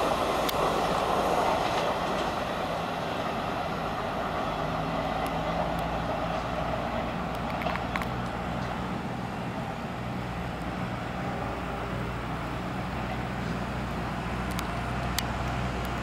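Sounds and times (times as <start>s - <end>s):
distant diesel locomotive rumble: 0.0s - 16.0s.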